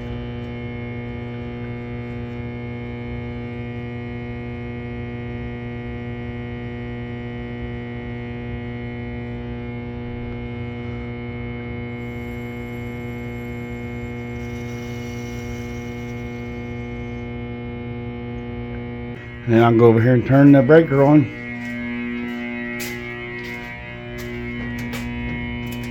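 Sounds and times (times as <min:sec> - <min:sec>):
low mains hum: 0:00.0 - 0:25.9.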